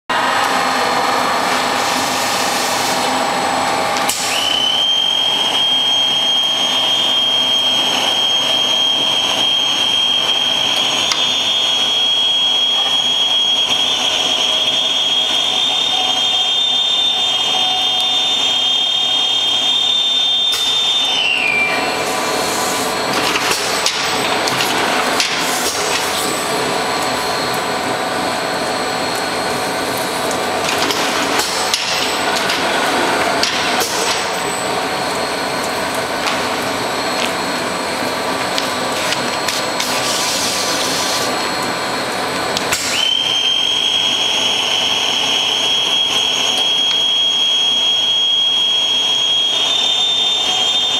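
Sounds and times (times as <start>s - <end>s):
high machine whine: 0.1s - 50.9s
machine mechanical noise: 0.2s - 50.9s.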